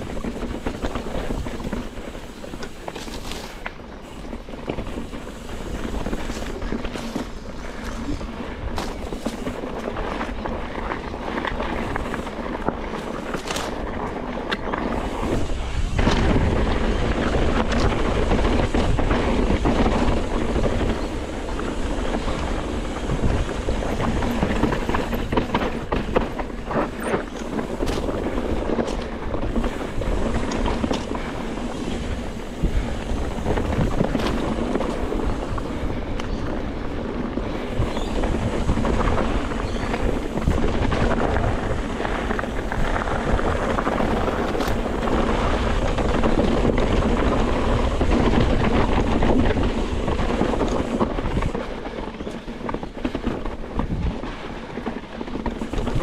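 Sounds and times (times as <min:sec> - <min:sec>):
steady rushing noise: 0:00.0 - 0:56.0
wind buffeting microphone: 0:00.0 - 0:56.0.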